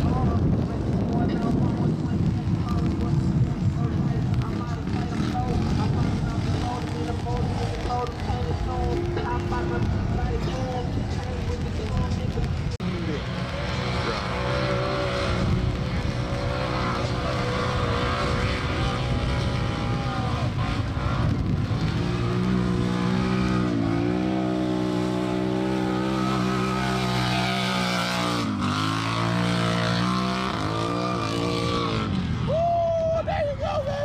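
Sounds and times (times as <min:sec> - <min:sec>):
racing atv engines revving: 0:00.0 - 0:34.0.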